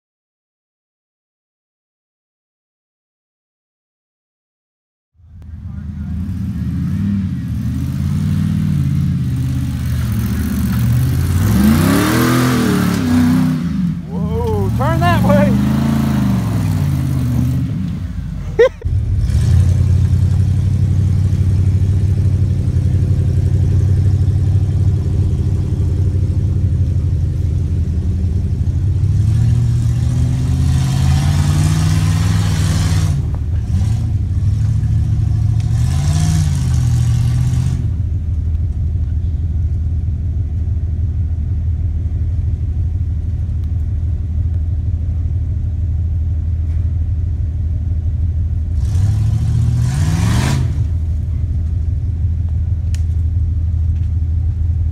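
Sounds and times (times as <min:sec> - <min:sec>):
car engine under load: 0:05.2 - 0:54.9.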